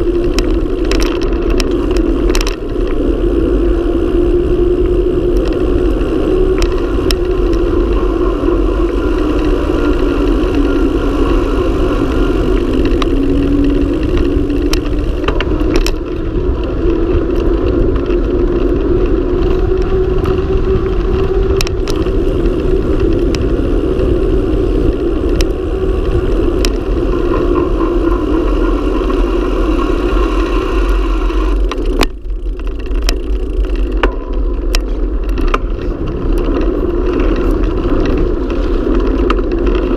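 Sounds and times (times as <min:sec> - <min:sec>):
tyres humming on road: 0:00.0 - 0:39.9
wind rushing over microphone: 0:00.0 - 0:39.9.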